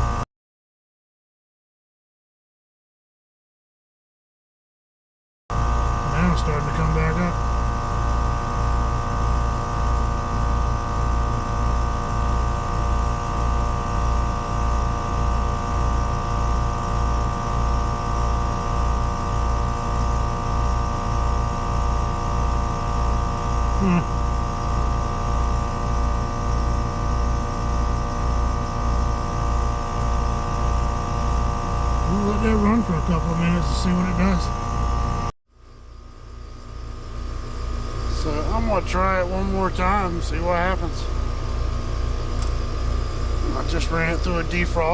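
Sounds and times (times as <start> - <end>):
heat pump compressor and fan hum: 0.0 - 0.2, 5.5 - 44.9.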